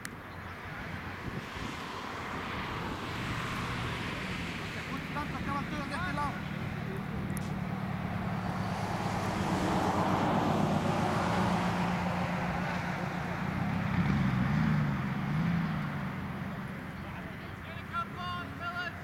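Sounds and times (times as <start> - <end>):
vehicle passing by: 0.6 - 18.4.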